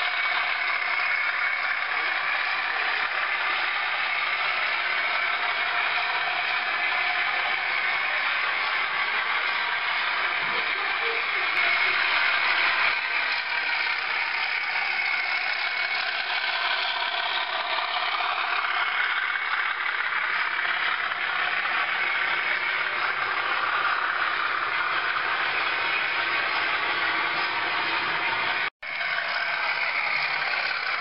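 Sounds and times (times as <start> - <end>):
model train whirring and rattling: 0.0 - 31.0.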